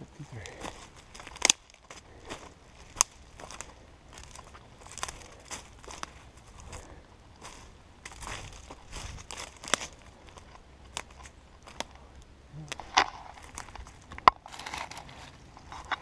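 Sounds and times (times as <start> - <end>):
rustling dry brush and leaves: 0.0 - 16.0
twigs snapping: 0.4 - 6.2, 8.1 - 16.0.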